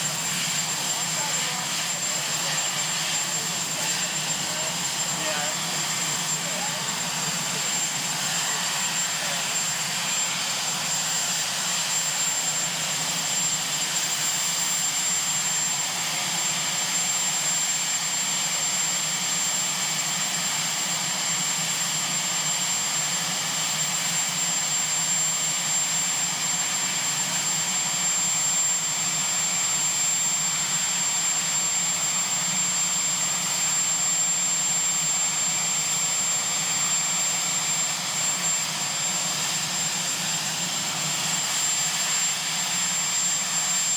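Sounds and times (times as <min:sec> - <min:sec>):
helicopter turbine whine: 0:00.0 - 0:43.9.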